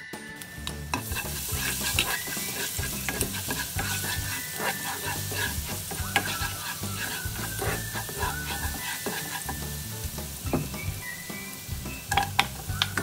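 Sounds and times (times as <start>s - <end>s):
garlic sizzling in oil: 0.4s - 13.0s
spatula scraping pan: 1.0s - 13.0s.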